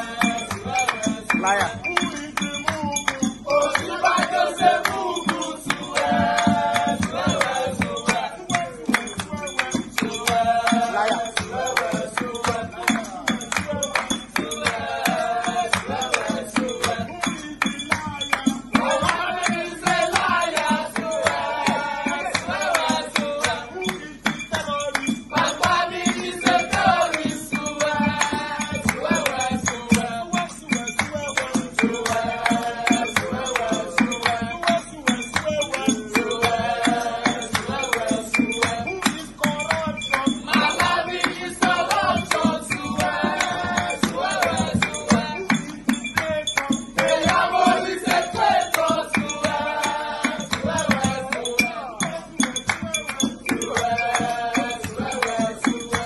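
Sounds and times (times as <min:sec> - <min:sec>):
hand-clapping: 0:00.0 - 0:56.0
men singing together: 0:00.0 - 0:56.0.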